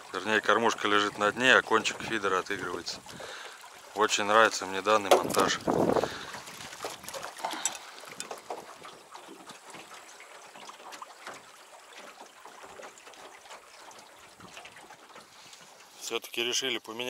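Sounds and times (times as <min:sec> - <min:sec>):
waves lapping against boat hull: 0:00.0 - 0:17.0.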